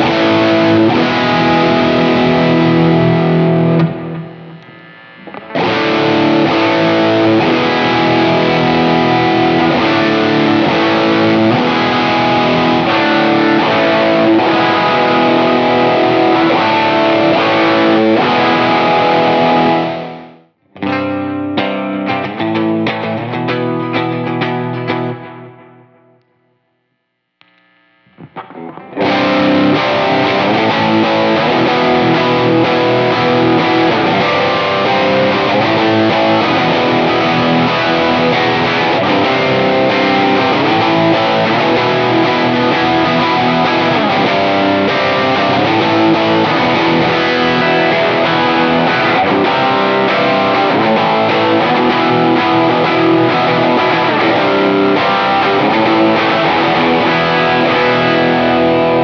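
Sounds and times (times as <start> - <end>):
distorted electric guitar chords: 0.0 - 59.0.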